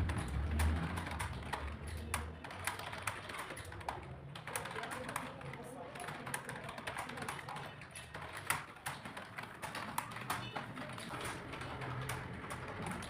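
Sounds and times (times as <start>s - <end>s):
keyboard typing: 0.0s - 13.0s.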